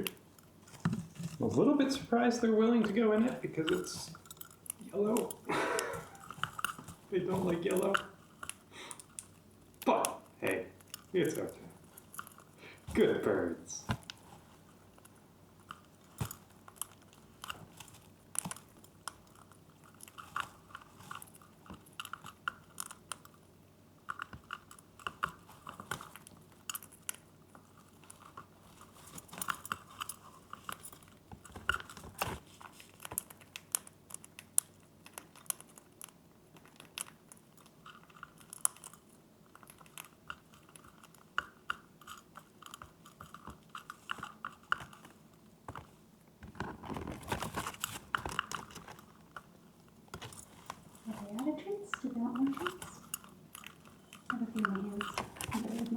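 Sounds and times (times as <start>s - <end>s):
parrots crunching treats: 0.0s - 55.9s.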